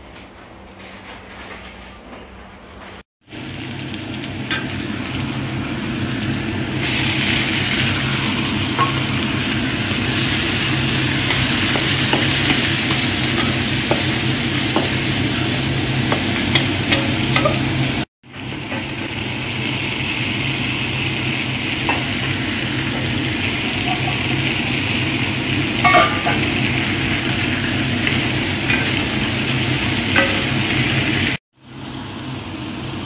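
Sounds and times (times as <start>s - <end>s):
food sizzling in hot oil: 3.2s - 33.0s.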